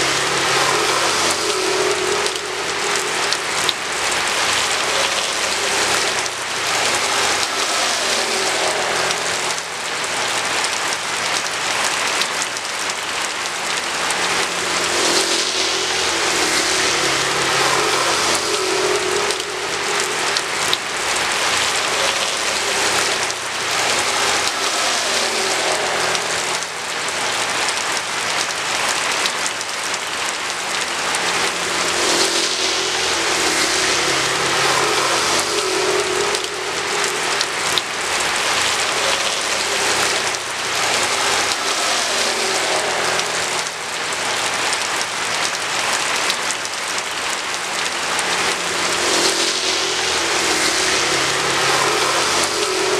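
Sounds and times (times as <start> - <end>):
steady rain falling: 0.0 - 52.9
vehicles passing on road: 0.0 - 52.9.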